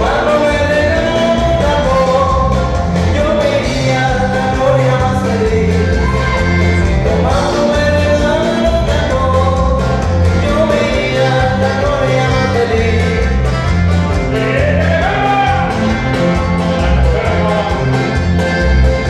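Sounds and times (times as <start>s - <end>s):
live dance band playing: 0.0s - 19.0s.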